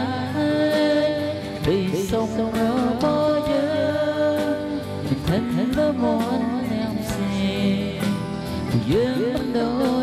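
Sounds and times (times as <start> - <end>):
instrumental backing: 0.0 - 10.0
person singing: 0.0 - 10.0.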